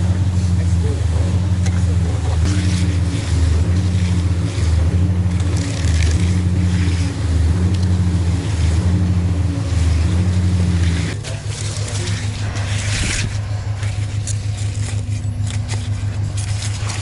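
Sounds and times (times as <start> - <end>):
pump truck diesel drone: 0.0 - 17.0.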